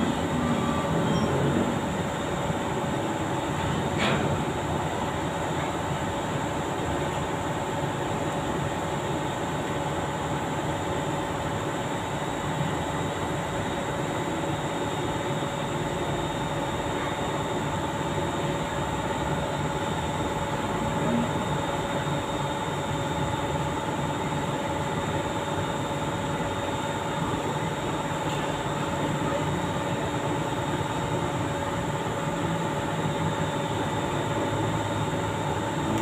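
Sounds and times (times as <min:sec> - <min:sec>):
machine drone with whining tones: 0:00.0 - 0:06.6, 0:08.1 - 0:36.0.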